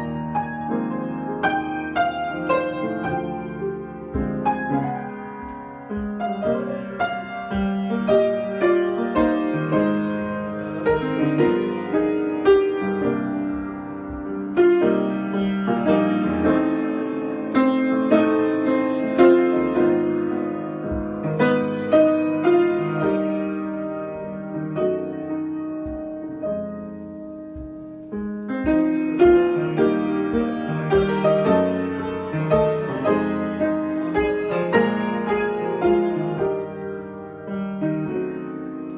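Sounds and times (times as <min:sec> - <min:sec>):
solo piano improvisation: 0:00.0 - 0:38.9.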